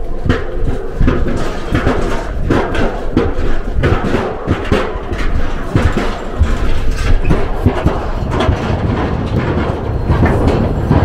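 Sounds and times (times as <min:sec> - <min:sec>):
low road rumble: 0:00.0 - 0:11.0
rapid knocks and thumps: 0:00.0 - 0:11.0.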